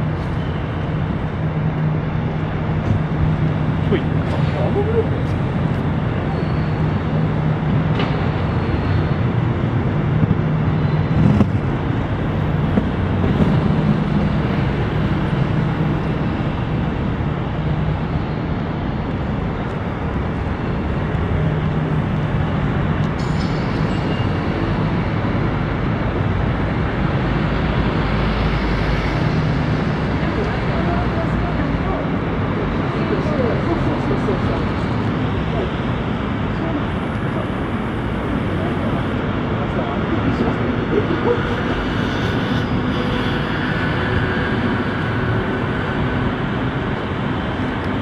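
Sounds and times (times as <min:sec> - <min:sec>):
city traffic hum: 0:00.0 - 0:48.0.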